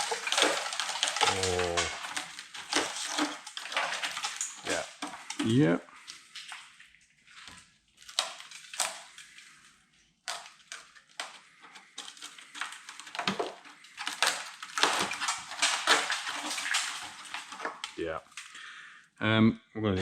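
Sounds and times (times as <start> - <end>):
rusted sheet metal crunching: 0.0 - 9.7, 10.3 - 18.7.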